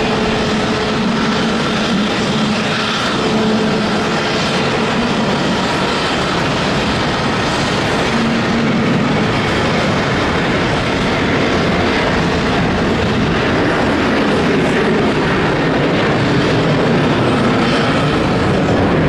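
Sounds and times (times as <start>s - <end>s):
jet engines roaring at take-off: 0.0s - 19.0s.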